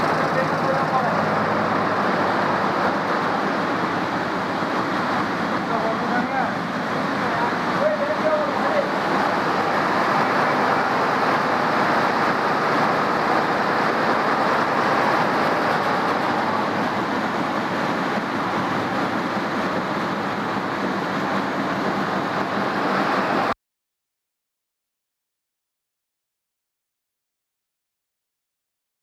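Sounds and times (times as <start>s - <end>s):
embroidery machines running: 0.0s - 23.6s.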